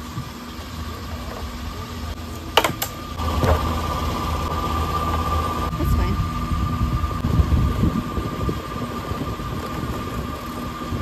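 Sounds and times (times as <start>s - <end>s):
machine humming and whining: 0.0s - 11.0s.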